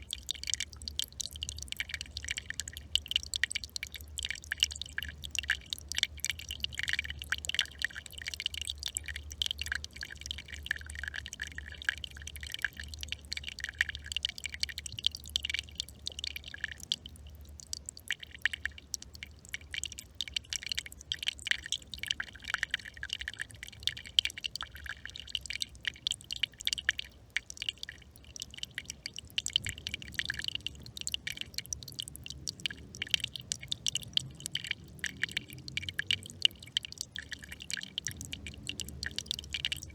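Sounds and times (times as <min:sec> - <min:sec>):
brook trickling over stones: 0:00.0 - 0:39.9
low steady hum: 0:00.0 - 0:39.9.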